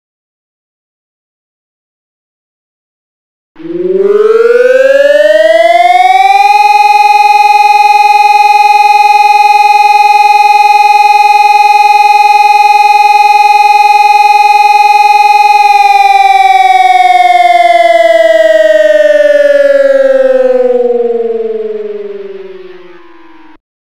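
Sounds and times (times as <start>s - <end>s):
two-pitch siren wail: 3.6s - 23.6s.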